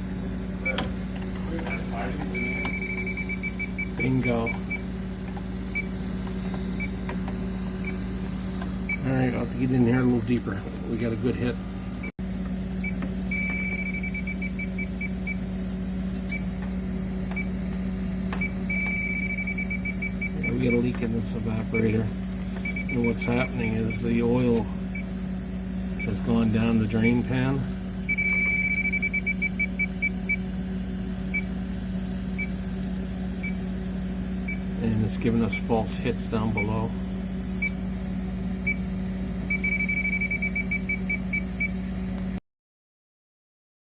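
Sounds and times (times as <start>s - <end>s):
leak detector beeping: 0.0s - 42.0s
steady low hum: 0.0s - 42.2s.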